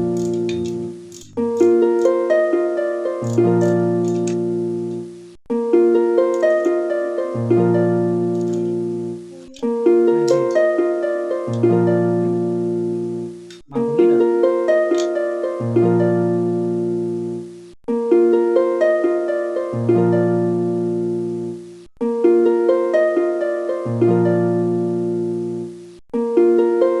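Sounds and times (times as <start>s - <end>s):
harp-like plucked string music: 0.0s - 17.3s, 18.1s - 21.5s, 22.2s - 25.3s.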